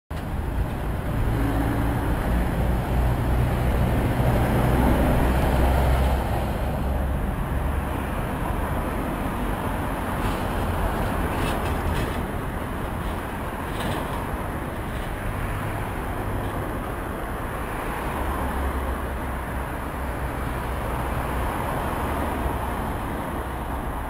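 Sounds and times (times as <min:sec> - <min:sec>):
vehicle engines running: 0:00.1 - 0:23.0.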